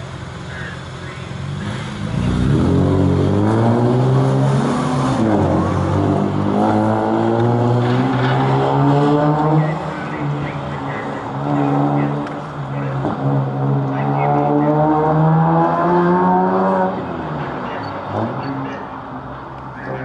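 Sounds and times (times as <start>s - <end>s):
motorcycle accelerating: 0.0s - 18.8s
car engine accelerating: 0.0s - 20.0s.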